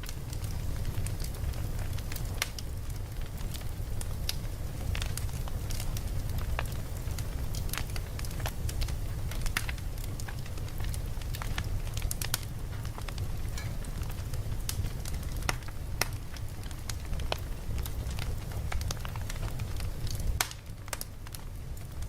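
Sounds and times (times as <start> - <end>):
campfire crackling and popping: 0.0 - 22.0
low rumble of fire: 0.0 - 22.0.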